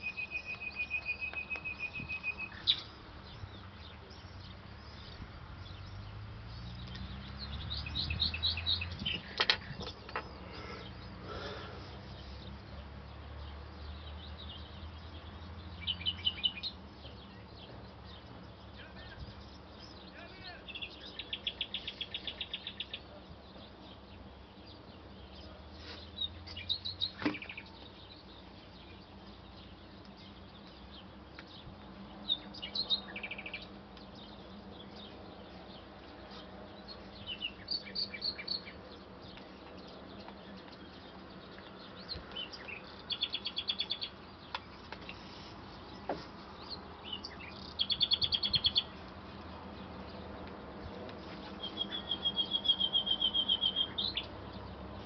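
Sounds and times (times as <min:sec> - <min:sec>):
songbirds trilling and chirping: 0:00.0 - 0:55.0.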